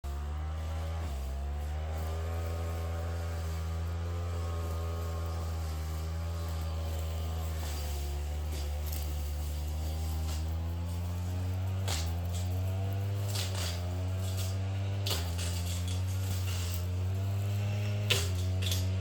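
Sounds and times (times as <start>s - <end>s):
brush cutter engine running: 0.0s - 19.0s.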